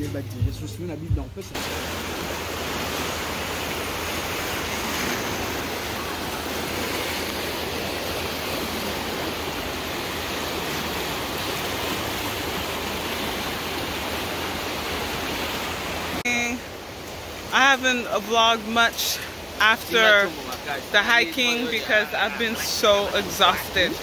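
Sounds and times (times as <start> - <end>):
river rushing: 1.5 - 24.0.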